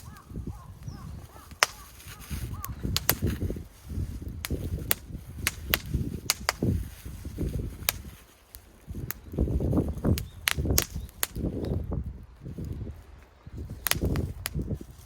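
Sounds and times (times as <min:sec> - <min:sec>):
sharp cracks and snaps: 0:00.0 - 0:11.8, 0:12.6 - 0:15.0
wind buffeting microphone: 0:00.0 - 0:15.0.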